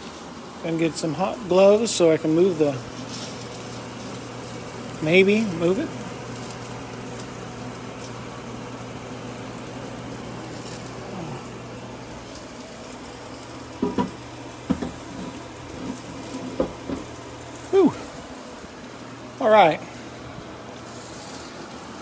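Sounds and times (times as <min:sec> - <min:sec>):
grill pan sizzling: 0:00.0 - 0:22.0.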